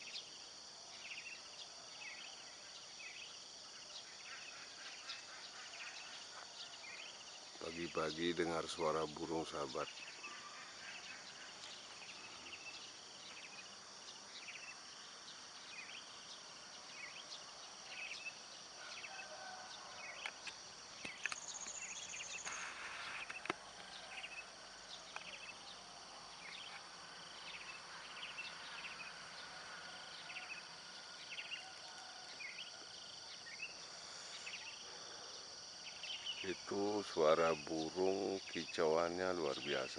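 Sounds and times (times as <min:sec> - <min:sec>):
bird chirping: 0:00.0 - 0:39.9
crickets and insects trilling: 0:00.0 - 0:39.9.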